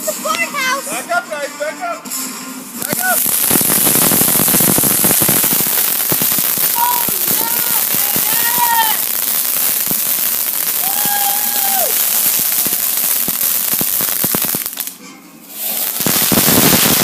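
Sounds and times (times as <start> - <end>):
firework crackling and popping: 0.0 - 1.2, 2.0 - 17.0
steady hiss: 2.1 - 17.0.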